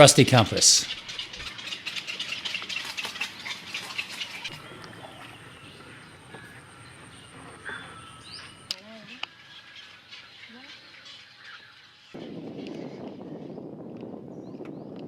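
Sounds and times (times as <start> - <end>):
birds clicking chatter: 0.0 - 12.9
scattered bird calls: 0.0 - 13.6.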